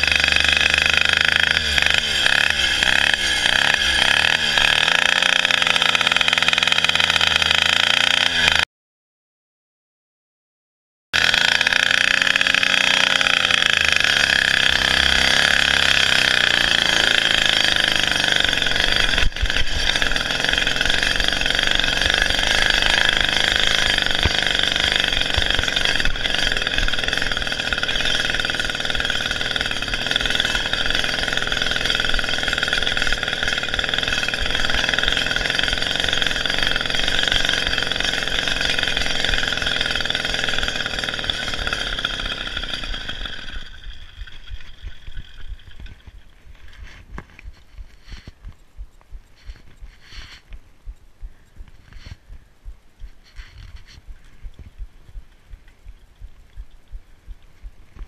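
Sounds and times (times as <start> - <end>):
small petrol engine revving: 0.0 - 8.7, 11.2 - 48.6, 49.4 - 50.6, 51.6 - 58.0.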